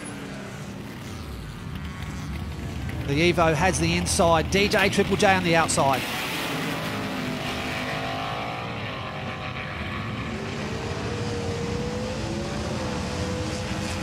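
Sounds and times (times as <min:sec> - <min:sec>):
race car engine drone: 0:00.0 - 0:14.0.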